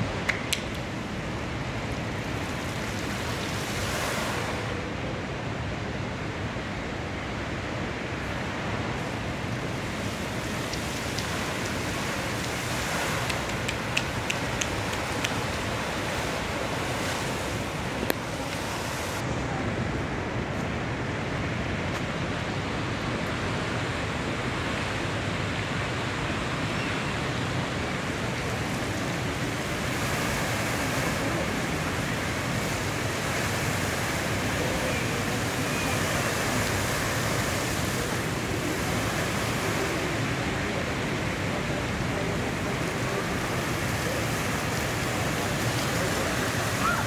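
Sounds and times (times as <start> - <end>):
fountain water splashing: 0.0 - 6.3, 8.0 - 20.3, 22.3 - 47.0.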